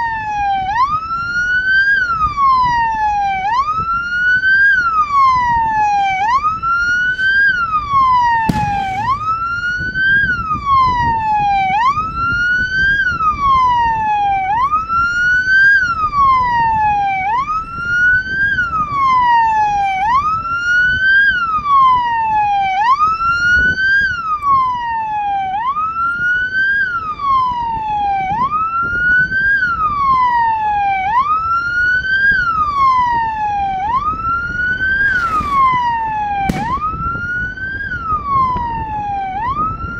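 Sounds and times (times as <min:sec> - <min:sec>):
vehicle siren wailing: 0:00.0 - 0:39.9.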